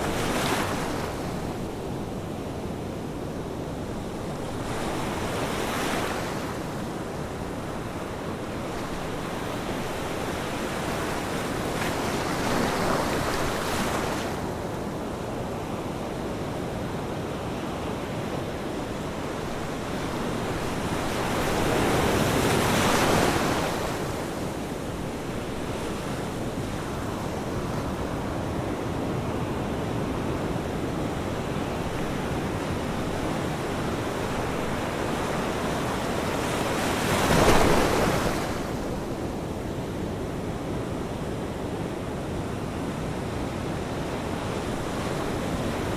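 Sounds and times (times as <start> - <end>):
ocean waves breaking on shore: 0.0 - 45.9.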